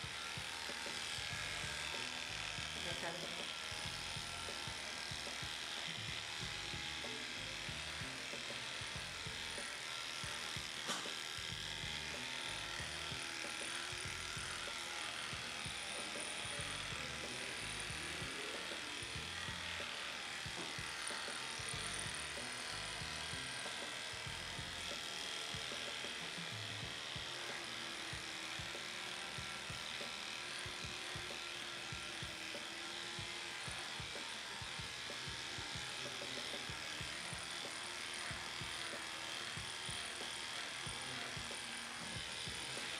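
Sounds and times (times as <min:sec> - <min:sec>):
electric clippers running: 0:00.0 - 0:42.9.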